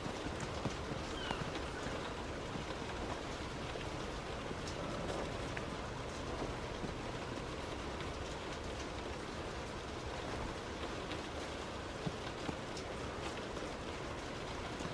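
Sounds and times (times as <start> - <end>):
road rumble: 0.0 - 14.9.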